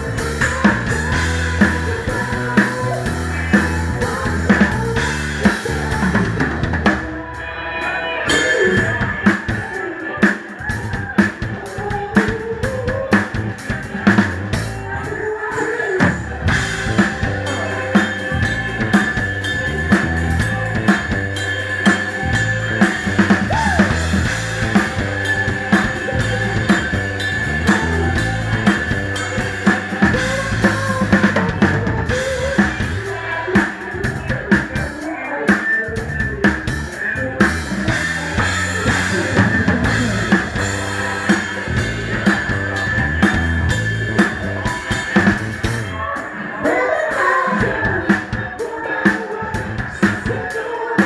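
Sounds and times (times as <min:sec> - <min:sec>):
drum kit groove: 0:00.0 - 0:51.0
guitar and bass: 0:00.0 - 0:51.0.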